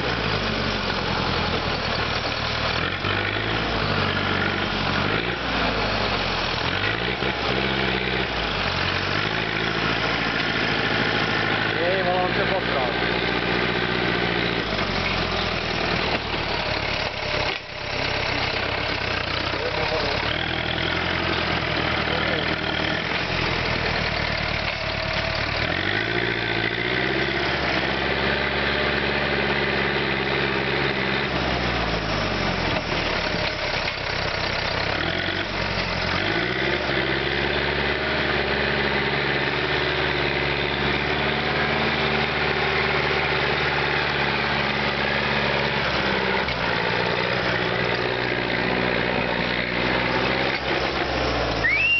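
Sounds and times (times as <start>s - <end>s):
tractor engine revving under load: 0.0s - 51.9s.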